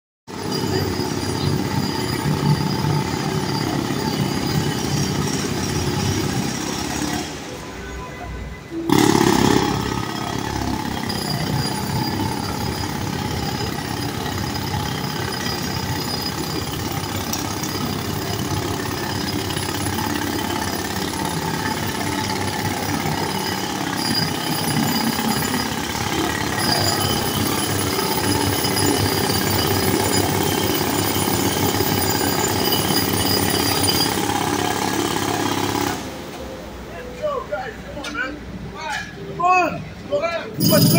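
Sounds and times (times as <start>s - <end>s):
jackhammers hammering: 0.3s - 7.5s, 8.8s - 36.4s, 40.6s - 40.9s.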